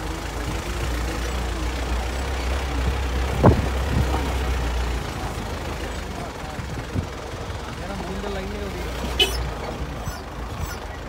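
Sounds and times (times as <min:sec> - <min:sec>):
jeep engine drone: 0:00.0 - 0:11.0.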